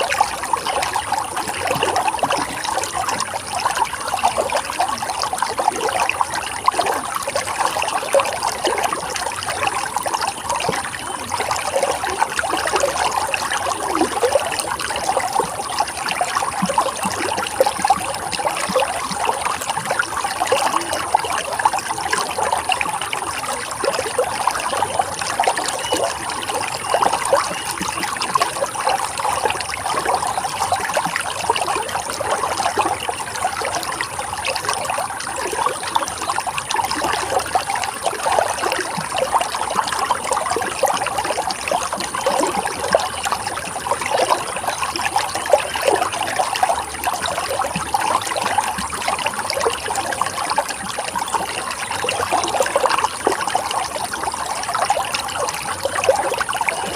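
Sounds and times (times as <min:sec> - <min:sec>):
stream water babbling: 0:00.0 - 0:56.9.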